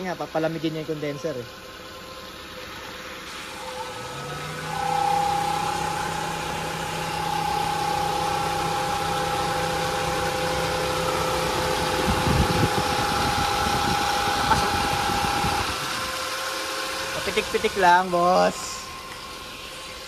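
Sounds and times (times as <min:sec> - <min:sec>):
electric cooling fan whine: 0:00.0 - 0:20.0
engine idling: 0:00.0 - 0:20.0.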